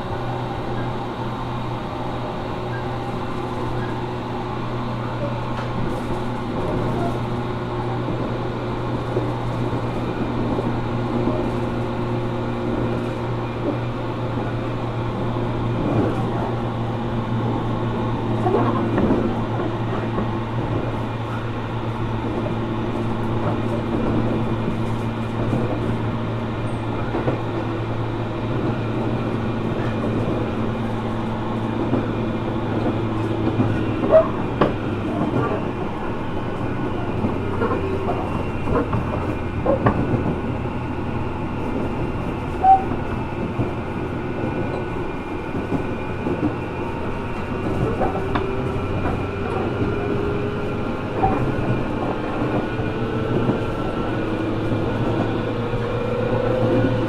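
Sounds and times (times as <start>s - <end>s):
train motor and gear hum: 0.0s - 57.0s.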